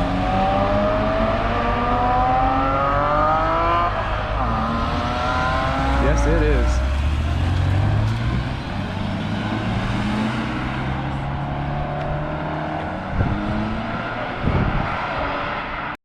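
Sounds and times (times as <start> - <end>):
car engines accelerating: 0.0 - 16.0.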